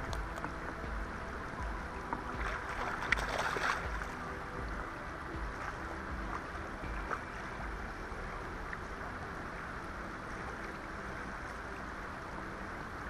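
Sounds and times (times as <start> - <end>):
low rumble: 0.0 - 13.0
river water rushing: 0.0 - 13.0.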